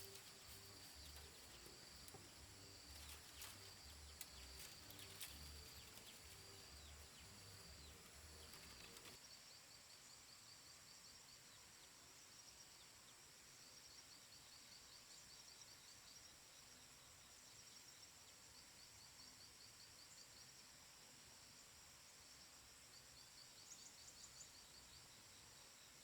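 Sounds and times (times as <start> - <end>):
high insect hum: 0.0 - 26.0.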